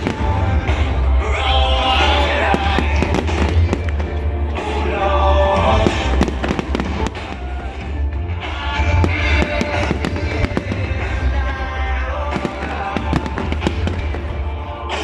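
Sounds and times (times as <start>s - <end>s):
fireworks bangs and crackles: 0.0s - 4.9s, 5.6s - 15.0s
loud music with heavy bass: 0.0s - 15.0s.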